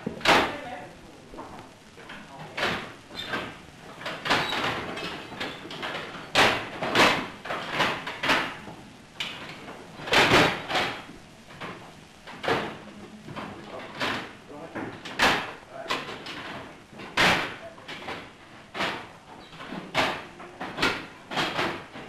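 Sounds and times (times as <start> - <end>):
steel levers clanking and thumping: 2.6 - 12.8, 13.4 - 22.0.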